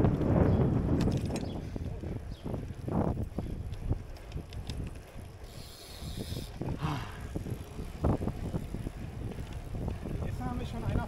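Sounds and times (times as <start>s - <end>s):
wind and road rumble: 0.0s - 11.0s
bicycle freewheel ticking: 1.6s - 11.0s.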